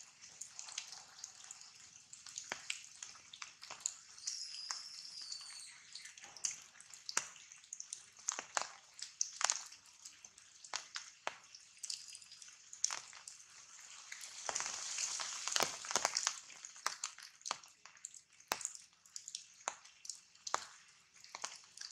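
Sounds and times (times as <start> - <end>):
rain dripping from wet foliage: 0.0 - 21.9
soft hiss of rain: 0.0 - 21.9.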